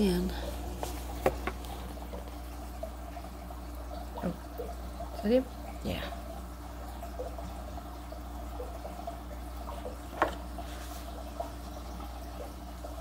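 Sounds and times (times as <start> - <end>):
aquarium filter bubbling: 0.0 - 13.0
steady low hum: 0.0 - 13.0.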